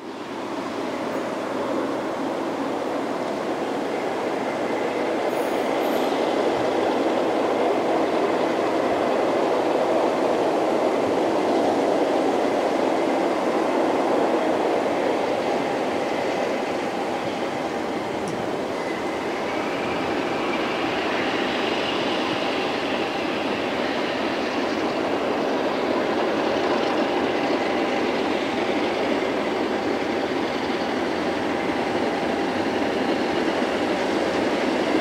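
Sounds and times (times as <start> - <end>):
diesel locomotive engines: 0.0 - 35.0.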